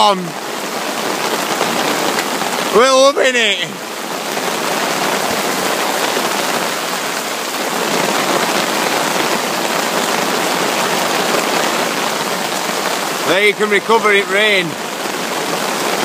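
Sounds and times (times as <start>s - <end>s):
heavy rain on river: 0.0s - 16.0s.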